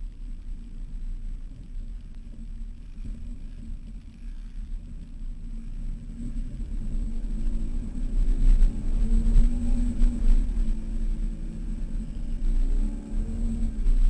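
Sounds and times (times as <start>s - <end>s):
off-road vehicle engine rumbling: 0.0s - 14.0s.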